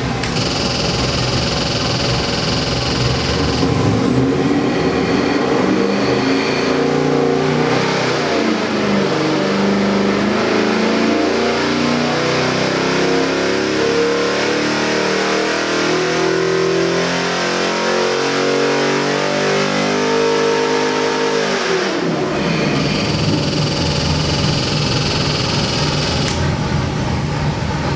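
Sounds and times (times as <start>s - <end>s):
engine revving: 0.3s - 26.6s.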